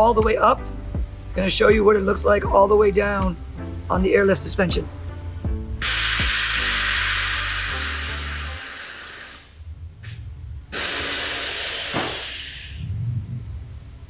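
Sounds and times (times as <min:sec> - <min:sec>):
air suspension hissing: 0:00.0 - 0:13.0.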